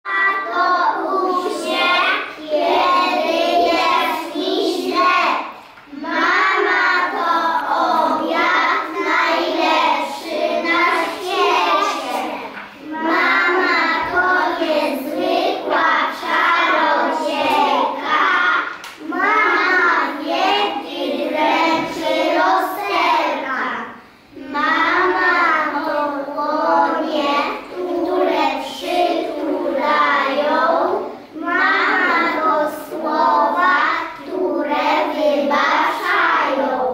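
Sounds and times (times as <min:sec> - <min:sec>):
children reciting in chorus: 0:00.0 - 0:36.9.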